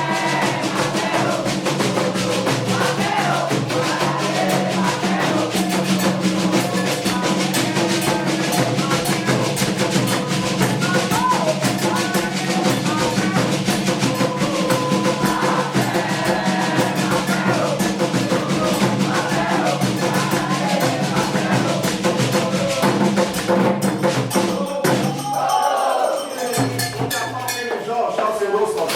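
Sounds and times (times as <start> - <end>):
fast hand drumming: 0.0 - 25.6, 26.4 - 28.9
group singing a chant: 0.0 - 28.9.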